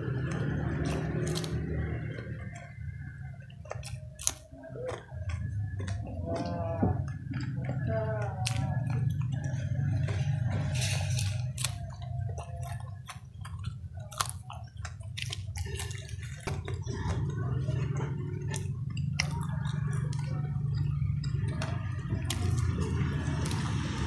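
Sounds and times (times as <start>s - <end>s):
chewing crispy fritters: 0.0s - 24.0s
steady low hum: 0.0s - 24.0s.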